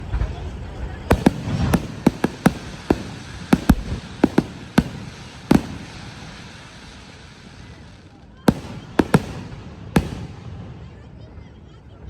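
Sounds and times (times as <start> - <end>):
fireworks hiss: 1.1 - 11.0
fireworks bangs: 1.1 - 11.3.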